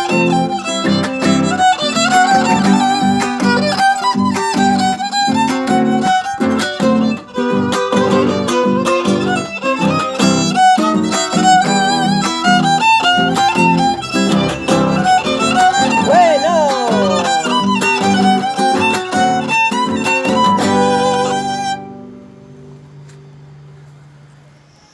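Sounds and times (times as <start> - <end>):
violin playing lively melody: 0.0 - 22.0
acoustic guitar accompaniment: 0.0 - 24.3.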